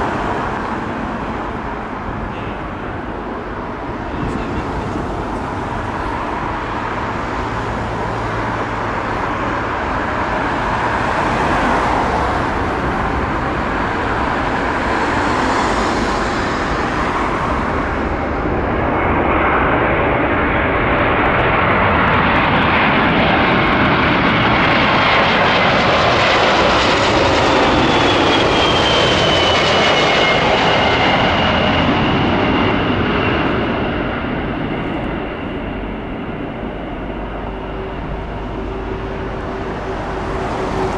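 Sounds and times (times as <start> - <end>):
airliner jet noise overhead: 0.0 - 40.9.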